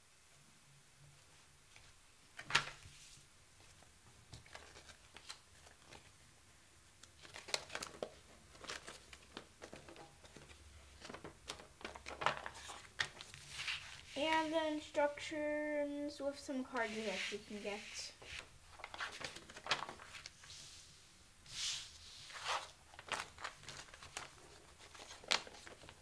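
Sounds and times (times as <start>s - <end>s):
paper rustling and crinkling: 1.3s - 6.2s, 7.0s - 14.9s, 16.5s - 20.7s, 21.5s - 26.0s.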